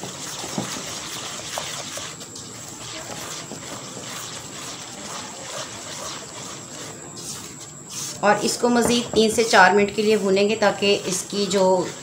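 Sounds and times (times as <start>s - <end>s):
spatula stirring and scraping: 0.0s - 12.0s.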